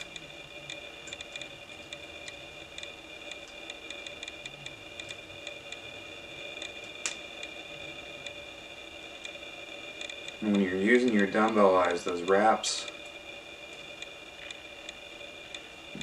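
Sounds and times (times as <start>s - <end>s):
faint high whine: 0.0s - 16.0s
thread wrapping ticks: 0.0s - 16.0s.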